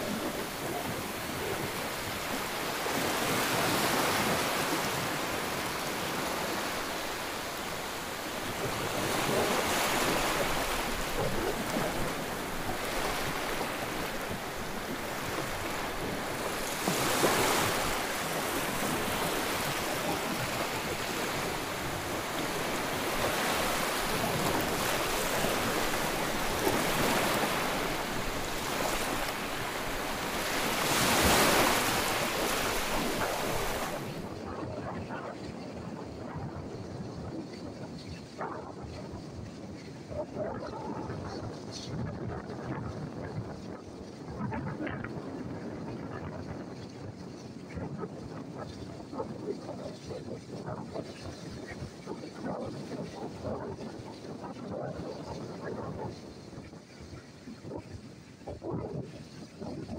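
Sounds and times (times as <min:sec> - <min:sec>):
waves breaking on stony shore: 0:00.0 - 0:59.9.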